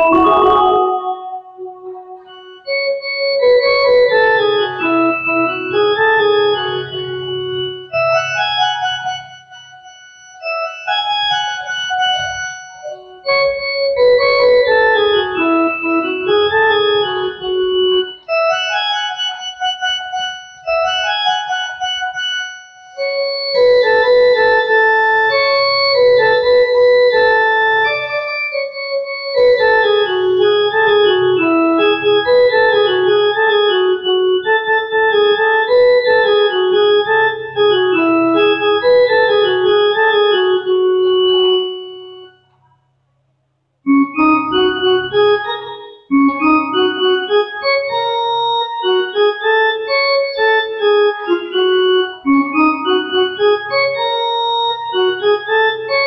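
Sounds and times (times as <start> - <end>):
electronic keyboard melody: 0.0 - 42.8, 43.9 - 56.0.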